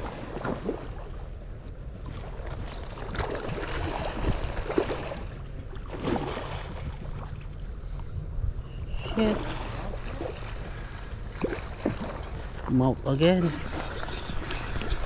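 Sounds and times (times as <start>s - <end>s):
water sloshing and splashing: 0.0s - 8.1s, 8.7s - 15.0s
wind rumbling on microphone: 0.0s - 15.0s.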